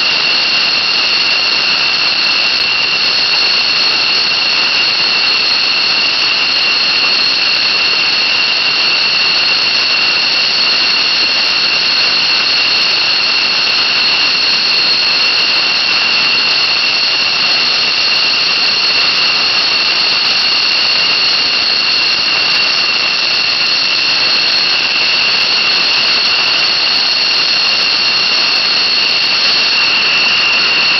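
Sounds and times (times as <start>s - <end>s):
jet engine running: 0.0s - 30.9s.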